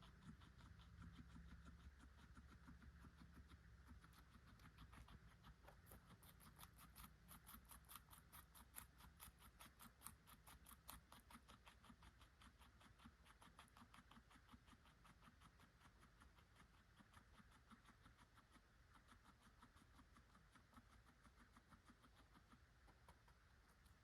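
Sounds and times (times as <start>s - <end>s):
guinea pig chewing carrot: 0.0s - 24.0s.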